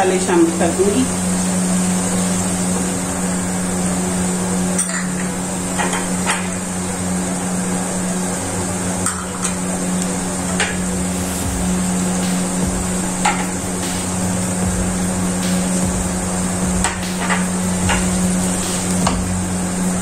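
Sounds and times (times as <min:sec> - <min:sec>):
low hum: 0:00.0 - 0:20.0
onions sizzling in oil: 0:00.0 - 0:20.0.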